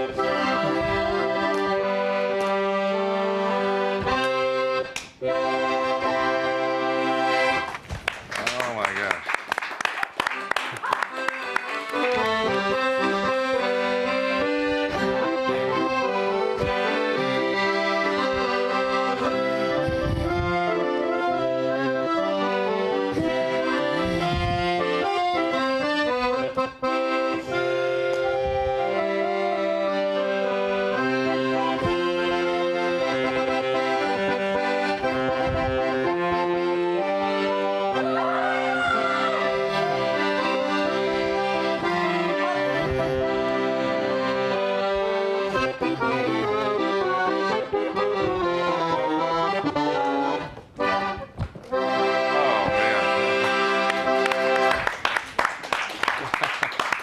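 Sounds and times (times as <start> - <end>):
accordion playing a lively tune: 0.0 - 7.9, 9.6 - 57.0.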